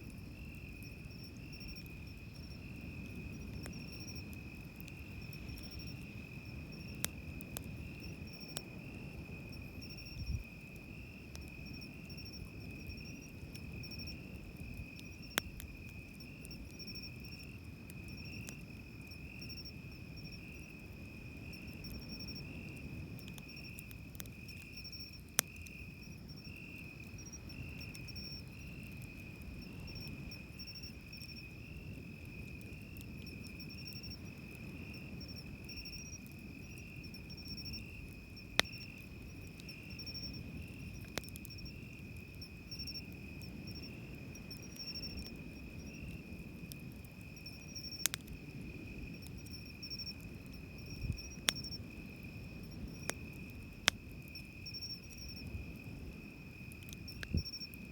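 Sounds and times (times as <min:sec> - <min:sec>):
campfire wood popping: 0:00.0 - 0:57.9.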